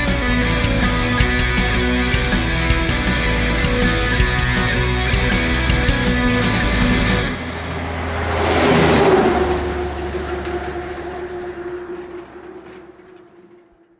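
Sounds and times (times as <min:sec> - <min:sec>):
background music: 0:00.0 - 0:11.7
motor vehicle passing: 0:00.0 - 0:13.8.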